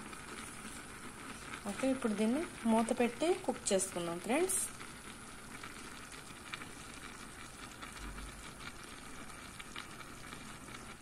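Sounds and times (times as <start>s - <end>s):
pot simmering and bubbling: 0.0s - 11.0s.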